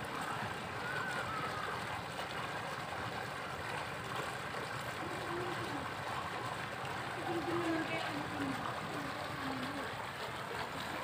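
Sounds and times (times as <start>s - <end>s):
faint distant voices: 0.0s - 2.8s, 4.5s - 11.0s
fountain water splashing: 0.0s - 11.0s.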